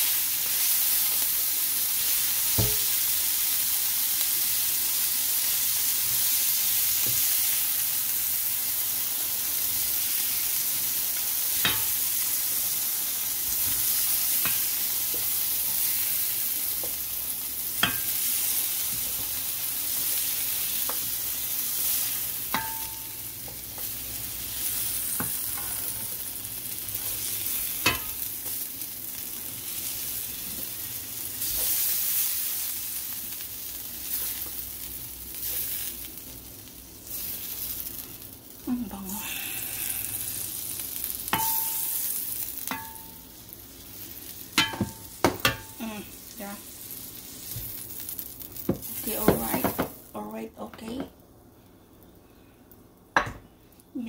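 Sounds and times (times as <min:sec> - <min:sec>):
food sizzling in a frying pan: 0:00.0 - 0:54.0.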